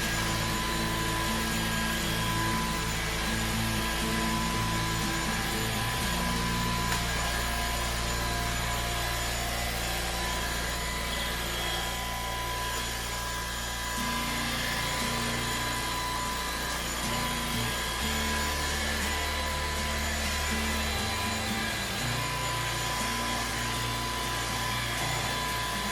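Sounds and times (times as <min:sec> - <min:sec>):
vacuum cleaner running: 0:00.0 - 0:25.9.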